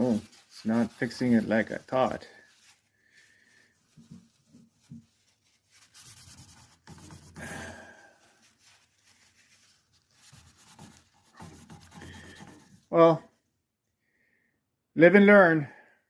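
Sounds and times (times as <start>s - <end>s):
paper towel rubbing wood: 0.0s - 13.0s.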